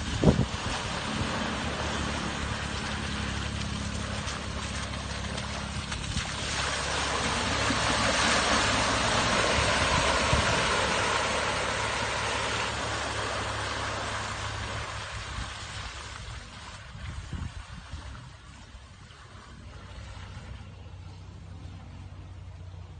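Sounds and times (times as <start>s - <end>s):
car engine hum: 0.0s - 22.9s.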